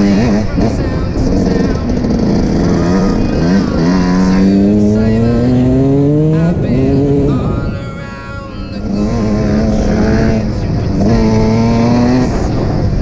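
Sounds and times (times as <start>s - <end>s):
dirt bike engine revving: 0.0s - 13.0s
lower engine note: 0.0s - 13.0s.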